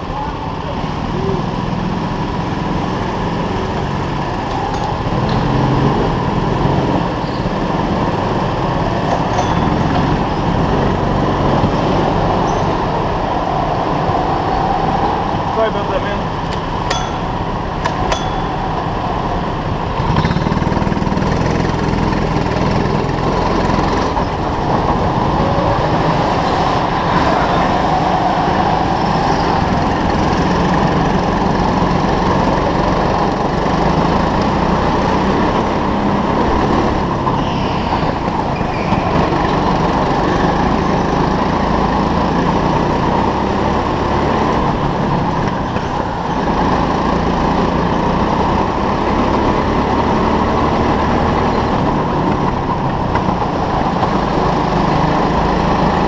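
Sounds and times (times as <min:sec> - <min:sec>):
go-kart motor running: 0:00.0 - 0:56.0.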